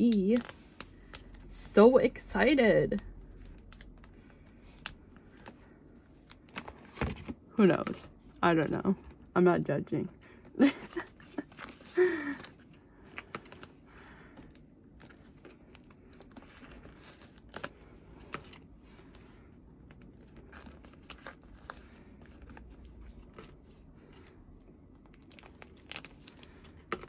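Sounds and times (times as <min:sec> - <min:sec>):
plastic pages rustling: 0:02.8 - 0:09.2, 0:10.2 - 0:27.0.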